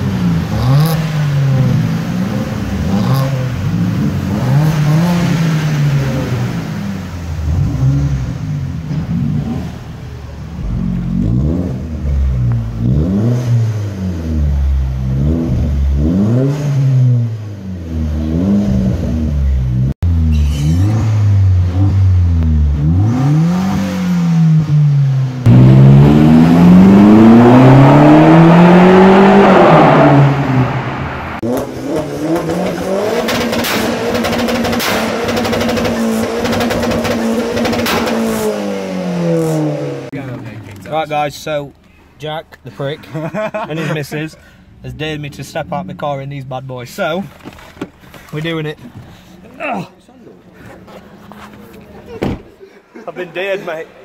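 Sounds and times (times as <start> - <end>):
exhaust crackles: 0.0 - 49.6
car engines revving: 0.0 - 52.6.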